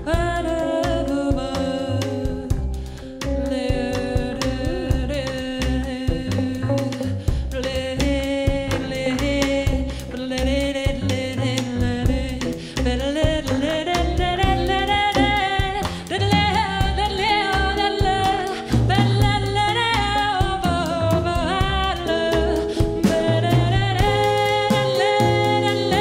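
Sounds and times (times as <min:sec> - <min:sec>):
bass: 0:00.0 - 0:26.0
drum kit: 0:00.0 - 0:26.0
jazz blues band playing: 0:00.0 - 0:26.0
woman singing long held notes: 0:03.4 - 0:06.9, 0:07.5 - 0:26.0.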